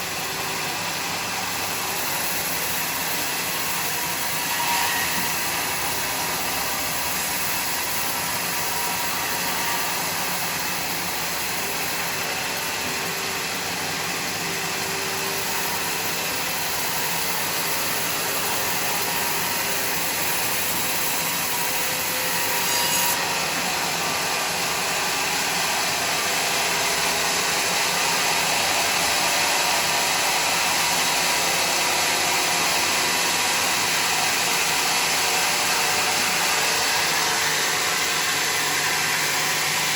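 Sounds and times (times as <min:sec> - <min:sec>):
sawmill blade cutting log: 0:00.0 - 0:39.9.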